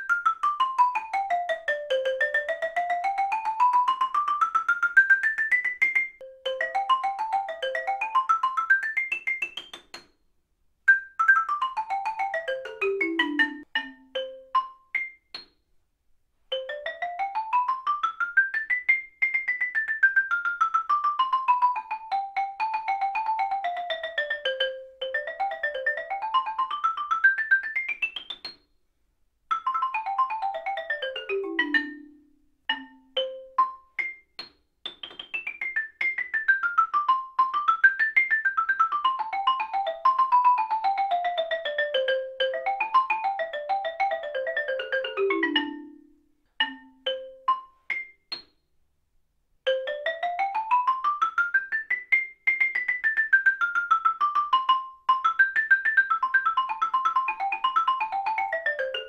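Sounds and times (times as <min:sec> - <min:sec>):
xylophone played with mallets: 0:00.0 - 0:10.1, 0:10.9 - 0:15.6, 0:16.5 - 0:28.6, 0:29.5 - 0:48.6, 0:49.7 - 0:59.0.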